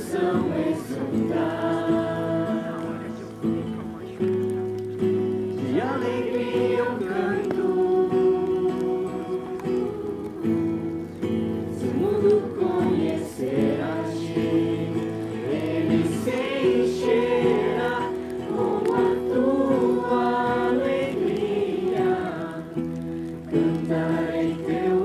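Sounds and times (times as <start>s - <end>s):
group singing worship song: 0.0s - 3.3s, 5.6s - 10.9s, 11.7s - 25.0s.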